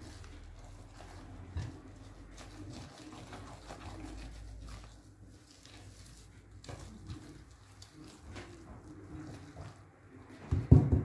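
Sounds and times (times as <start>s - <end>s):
spatula scraping glass bowl: 0.0s - 10.6s.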